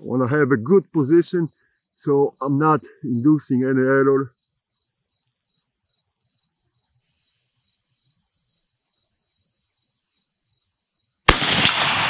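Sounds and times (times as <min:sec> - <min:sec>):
insects chirping: 0:00.0 - 0:11.4
steady high insect buzz: 0:00.8 - 0:11.3.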